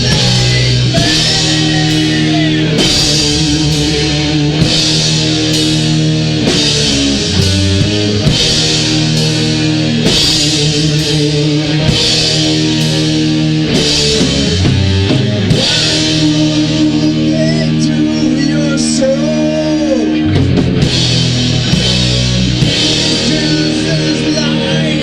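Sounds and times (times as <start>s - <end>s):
heavy metal band playing: 0.0s - 25.0s.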